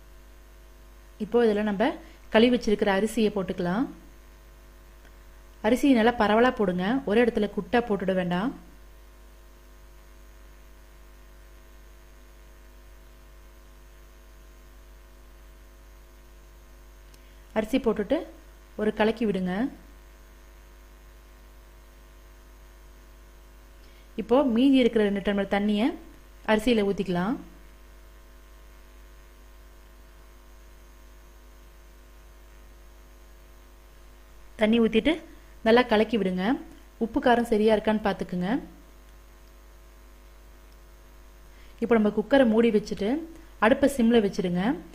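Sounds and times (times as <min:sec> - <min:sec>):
low electrical hum: 0:00.0 - 0:44.9.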